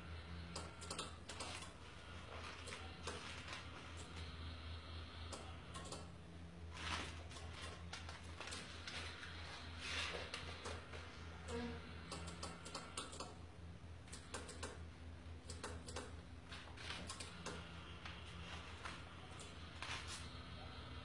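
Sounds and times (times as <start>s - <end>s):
faint motor whir: 0.0s - 21.0s
steady low hum: 0.0s - 21.0s.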